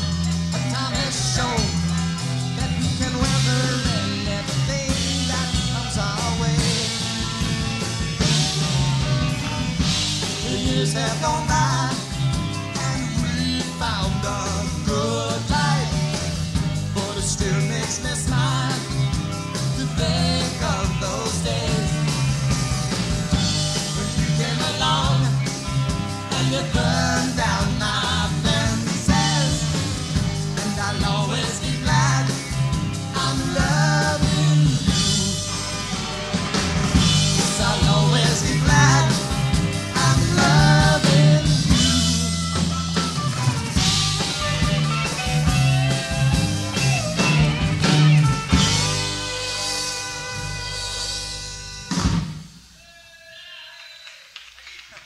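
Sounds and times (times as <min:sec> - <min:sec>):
live rock band: 0:00.0 - 0:52.8.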